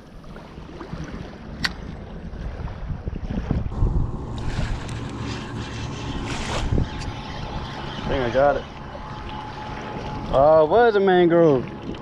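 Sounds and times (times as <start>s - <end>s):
wind buffeting microphone: 0.9s - 12.0s.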